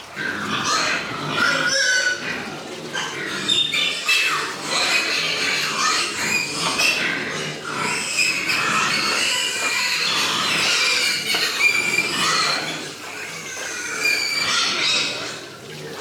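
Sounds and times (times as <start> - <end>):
pigs squealing: 0.0 - 16.0.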